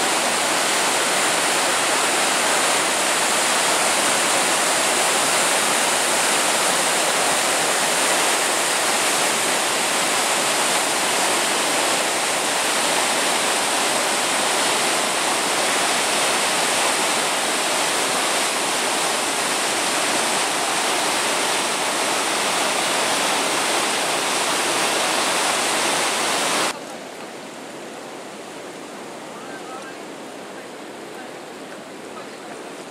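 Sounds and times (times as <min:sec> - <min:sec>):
river rushing over waterfall: 0:00.0 - 0:32.9.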